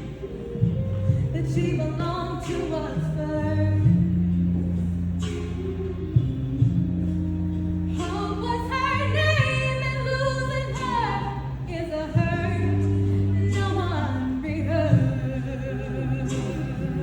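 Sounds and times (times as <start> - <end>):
sustained low accompaniment: 0.0 - 17.0
woman singing: 0.0 - 17.0.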